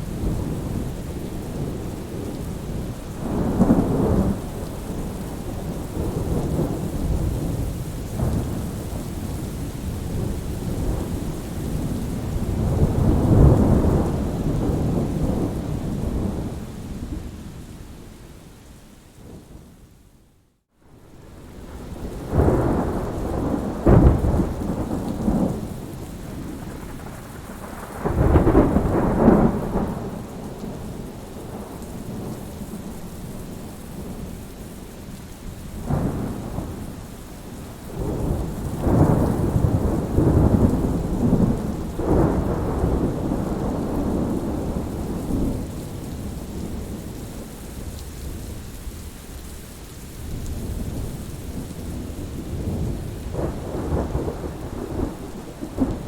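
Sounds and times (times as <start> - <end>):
thunder rumbling and crackling: 0.0 - 17.4, 21.1 - 34.5, 35.8 - 48.9, 50.1 - 56.0
steady rain: 0.0 - 56.0.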